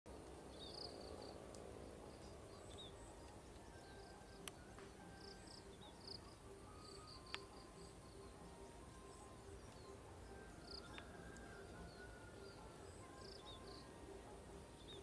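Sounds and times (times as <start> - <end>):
distant bird chirps: 0.4 - 15.0.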